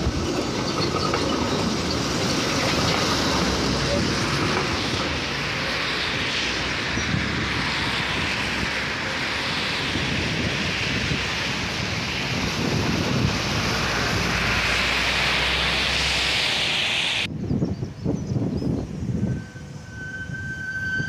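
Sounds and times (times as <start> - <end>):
tram moving along track: 0.0 - 21.0
wind rumble on microphone: 0.0 - 21.0.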